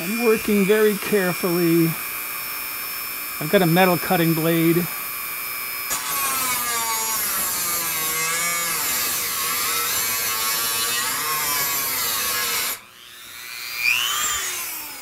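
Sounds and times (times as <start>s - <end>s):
rotary tool grinding metal: 0.0s - 5.0s, 5.6s - 15.0s.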